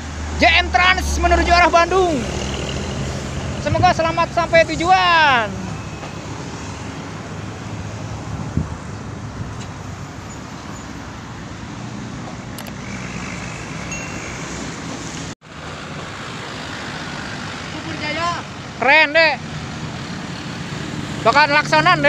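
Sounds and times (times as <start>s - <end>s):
passing road traffic: 0.0s - 22.0s.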